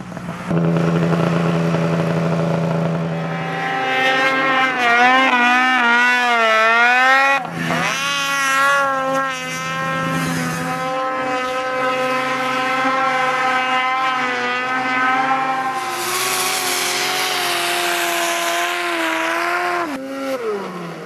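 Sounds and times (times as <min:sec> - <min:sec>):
snowmobile engine at high revs: 0:00.0 - 0:21.0.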